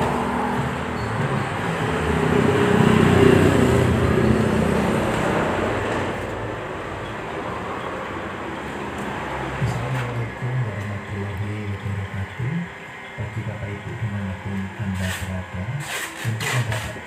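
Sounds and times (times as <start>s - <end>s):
vehicle traffic rumble: 0.0s - 17.0s.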